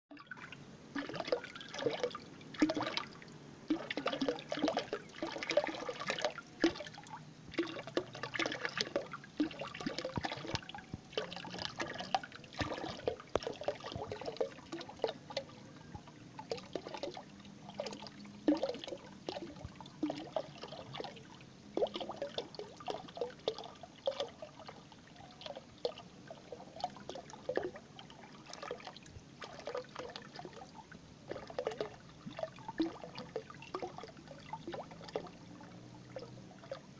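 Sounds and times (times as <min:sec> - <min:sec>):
water pouring into water: 0:00.1 - 0:36.9.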